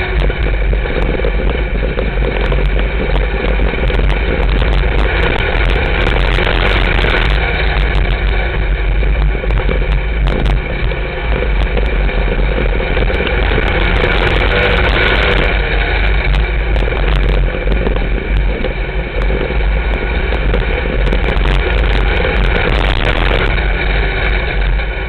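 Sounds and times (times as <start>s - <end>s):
race car engine running: 0.0s - 25.0s.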